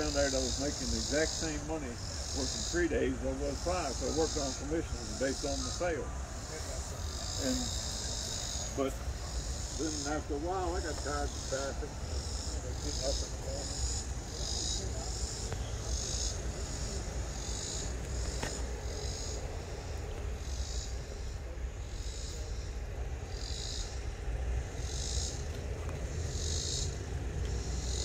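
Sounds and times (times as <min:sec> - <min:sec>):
insects chirping in buzzy pulses: 0:00.0 - 0:28.0
steady low rumble: 0:00.0 - 0:28.0.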